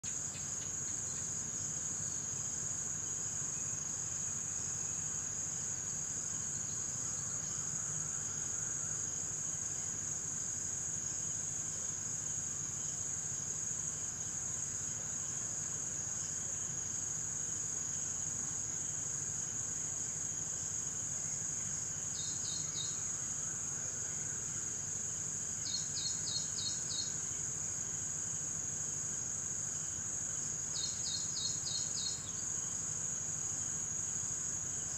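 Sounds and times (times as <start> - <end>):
cricket chorus trilling: 0.0 - 34.9.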